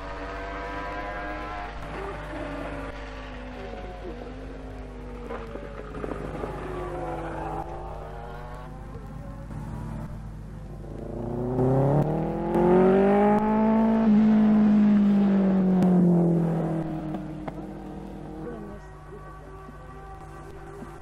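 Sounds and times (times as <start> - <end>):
racing engine passing at speed: 0.0 - 21.0.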